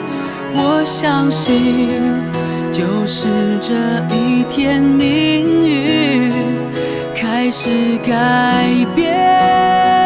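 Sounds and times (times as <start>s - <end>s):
slow gentle music: 0.0s - 10.0s.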